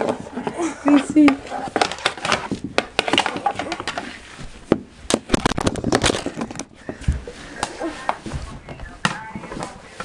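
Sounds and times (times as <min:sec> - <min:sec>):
hockey sticks clacking on floor: 0:00.0 - 0:10.0.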